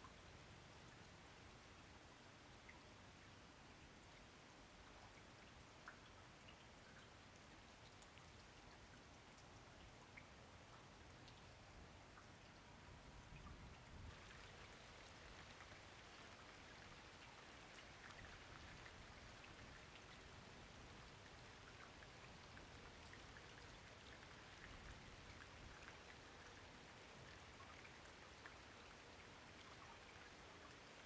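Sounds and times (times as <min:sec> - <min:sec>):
light rain with ticking drops: 0:00.0 - 0:31.0.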